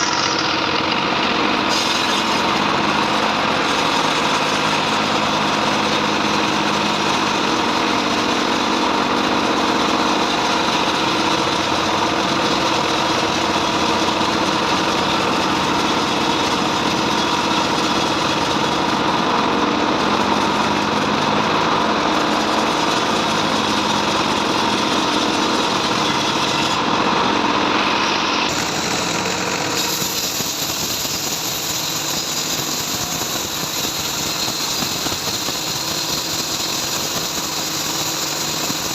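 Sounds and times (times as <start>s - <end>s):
bandsaw mill sawing wood: 0.0s - 38.9s.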